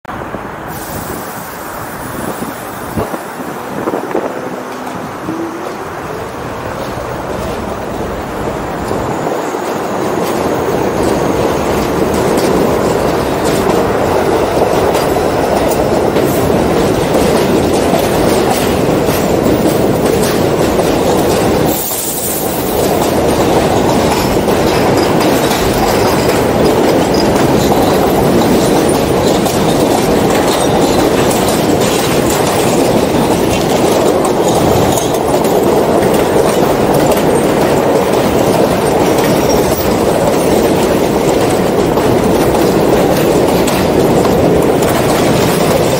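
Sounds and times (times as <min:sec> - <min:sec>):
train wheels rumbling on rails: 0:00.0 - 0:45.9
clickety-clack over rail joints: 0:00.1 - 0:45.9.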